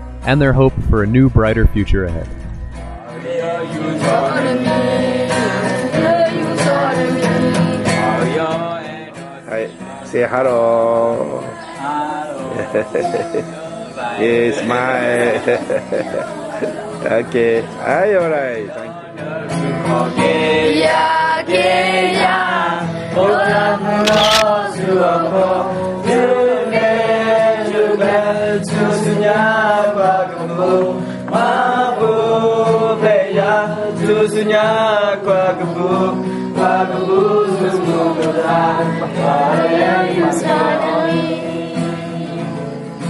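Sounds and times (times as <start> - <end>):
song with voices singing: 3.0 - 9.4, 10.8 - 17.8, 18.7 - 43.0.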